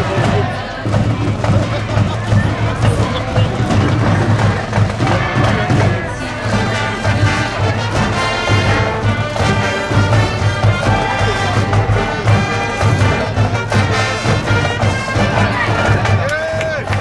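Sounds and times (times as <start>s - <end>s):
brass instruments playing: 0.0s - 17.0s
steady drum beat: 0.0s - 17.0s.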